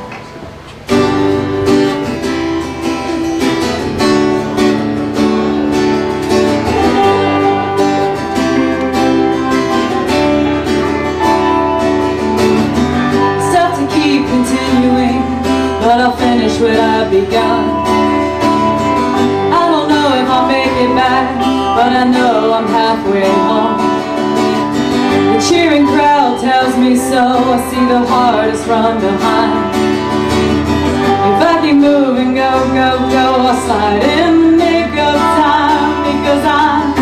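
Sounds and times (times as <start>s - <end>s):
guitars strumming chords: 0.0s - 37.0s.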